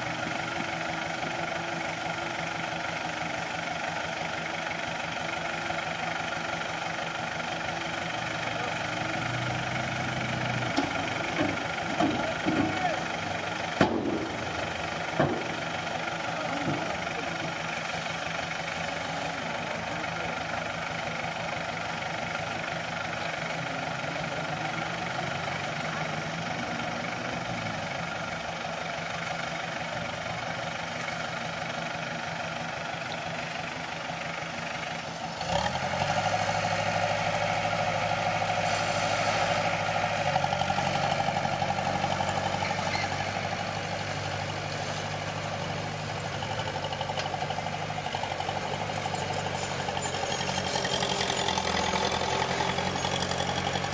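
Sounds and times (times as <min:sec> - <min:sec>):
diesel engine of heavy machinery: 0:00.0 - 0:53.9.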